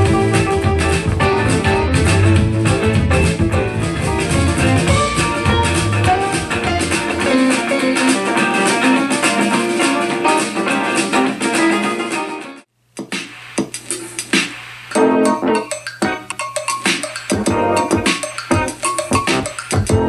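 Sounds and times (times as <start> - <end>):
guitar music through speakers: 0.0 - 12.7, 14.9 - 20.0.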